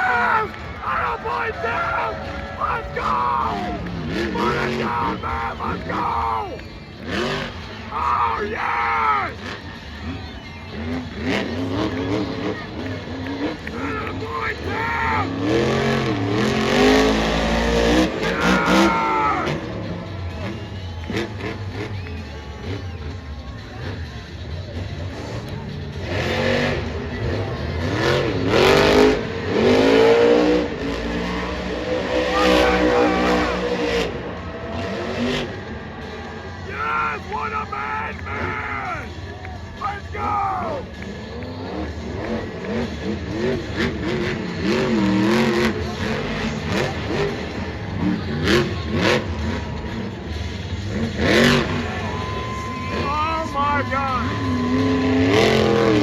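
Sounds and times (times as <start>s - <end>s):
monster truck engine revving: 0.0s - 39.2s, 39.8s - 53.0s, 53.8s - 56.0s.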